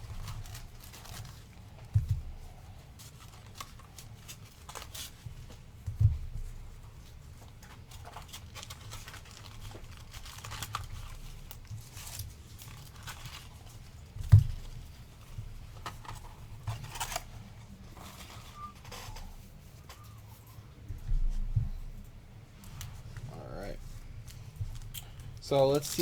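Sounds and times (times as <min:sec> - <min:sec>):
card wrappers rustling: 0:00.0 - 0:05.7, 0:07.2 - 0:20.8, 0:22.6 - 0:26.0.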